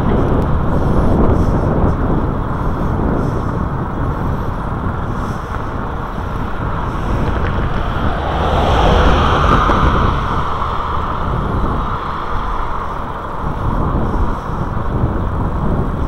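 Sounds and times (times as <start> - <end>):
rumbling road hiss: 0.0 - 16.0
wind rushing over microphone: 0.0 - 16.0.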